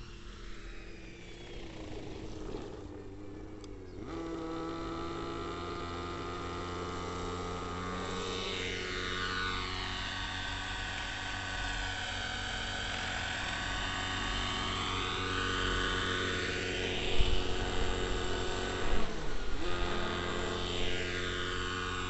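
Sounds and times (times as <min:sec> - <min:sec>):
model helicopter engine and rotors: 0:00.0 - 0:22.0.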